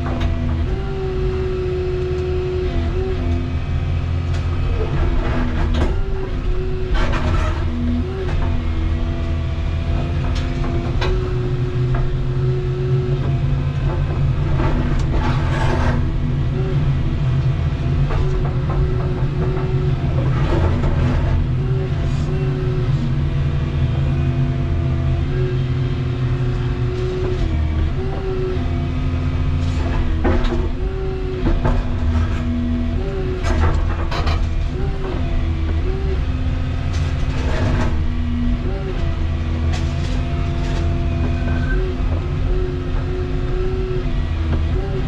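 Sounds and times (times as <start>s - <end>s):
excavator hydraulic whine: 0.0s - 45.0s.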